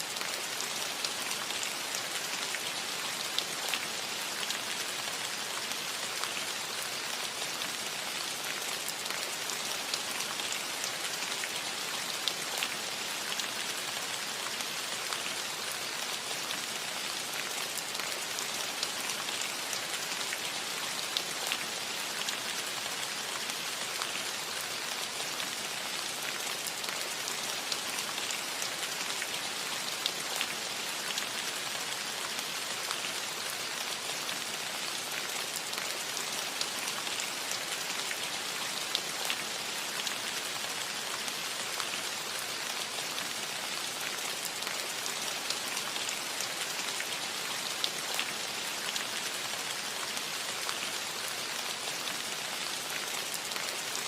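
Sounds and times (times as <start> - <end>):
rain hissing on a roof: 0.0 - 54.0.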